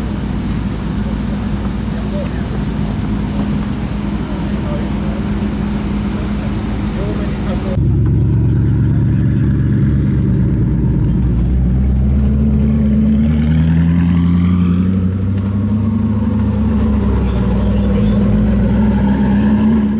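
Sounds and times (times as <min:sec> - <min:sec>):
car engines rolling past: 0:00.0 - 0:19.9.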